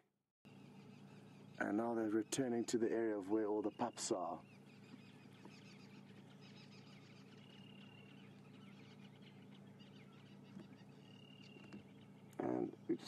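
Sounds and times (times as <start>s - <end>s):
high chirping and twittering: 0.5s - 13.0s
low hum: 0.5s - 13.0s.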